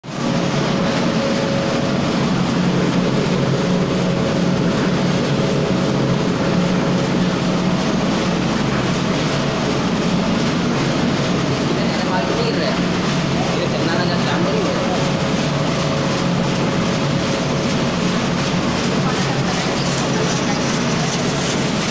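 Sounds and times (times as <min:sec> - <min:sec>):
loud steady machine hum: 0:00.0 - 0:21.9.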